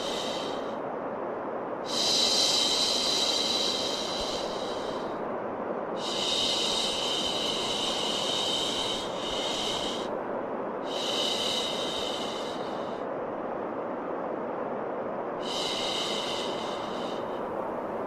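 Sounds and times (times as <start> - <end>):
white noise: 0.0 - 18.0.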